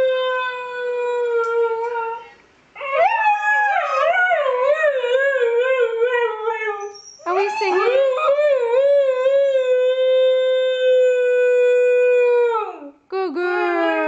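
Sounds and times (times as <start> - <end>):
dog howling: 0.0 - 12.9.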